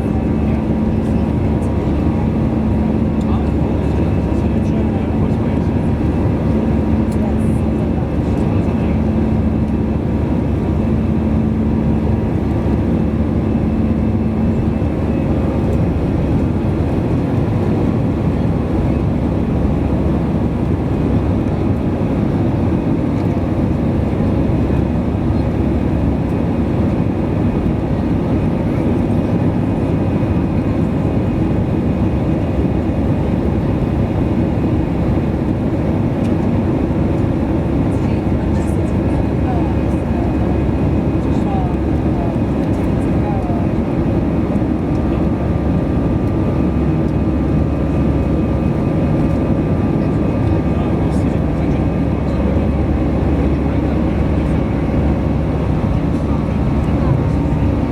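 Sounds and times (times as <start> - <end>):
aircraft cabin engine roar: 0.0 - 57.9.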